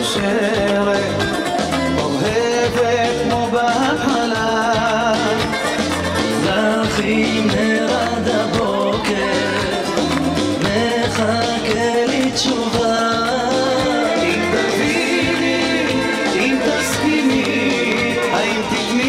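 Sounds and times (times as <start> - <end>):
person singing: 0.0 - 19.0
upbeat dance music: 0.0 - 19.0.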